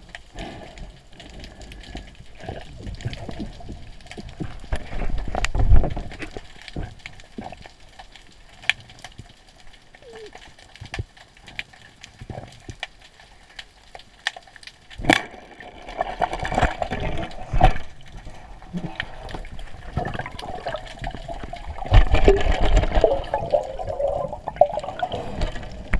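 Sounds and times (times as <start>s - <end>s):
water splashing and sloshing: 0.0s - 25.9s.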